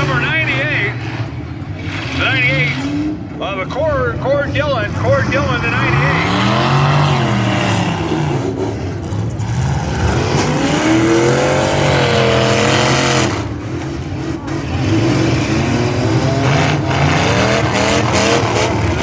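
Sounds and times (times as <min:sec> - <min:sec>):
truck engines revving hard: 0:00.0 - 0:19.0.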